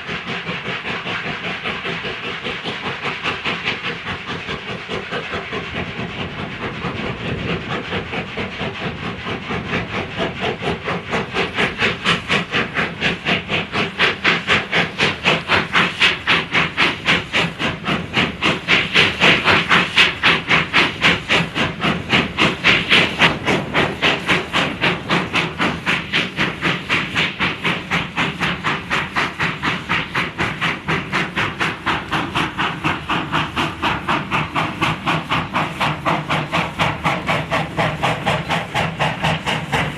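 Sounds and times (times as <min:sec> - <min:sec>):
steam hiss: 0:00.0 - 0:39.9
steam locomotive chuffing: 0:00.0 - 0:39.9.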